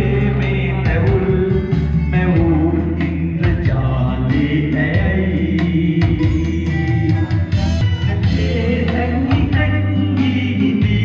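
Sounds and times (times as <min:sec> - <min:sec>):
backing track over loudspeaker: 0:00.0 - 0:11.0
men singing karaoke: 0:00.0 - 0:11.0.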